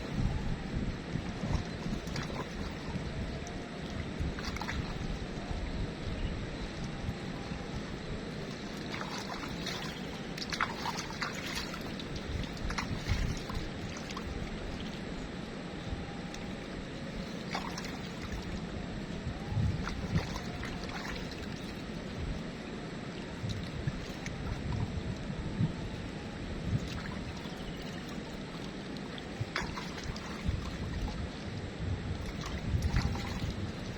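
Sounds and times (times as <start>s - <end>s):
flowing river water: 0.0s - 25.2s, 25.8s - 33.9s.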